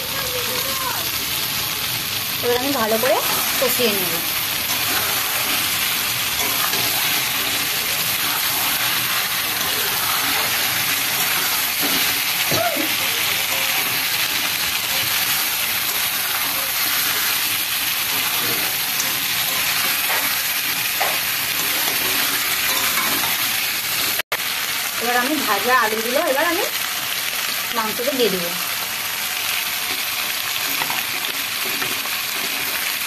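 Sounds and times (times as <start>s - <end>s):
paste sizzling in hot oil: 0.0s - 33.0s.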